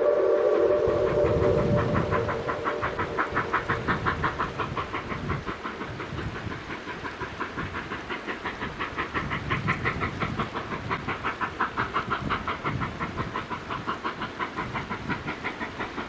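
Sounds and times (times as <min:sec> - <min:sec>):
steam train running: 0:00.0 - 0:16.0.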